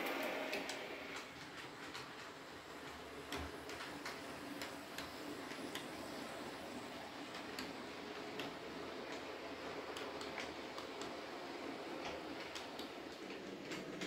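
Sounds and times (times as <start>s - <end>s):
model train running noise: 0.0s - 14.0s
wheels clicking over rail joints: 0.0s - 14.0s.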